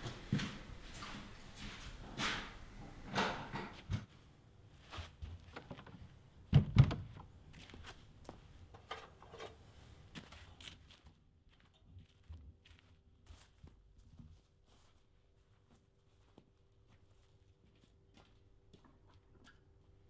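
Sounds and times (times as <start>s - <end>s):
footsteps: 0.0s - 6.2s, 7.5s - 19.6s.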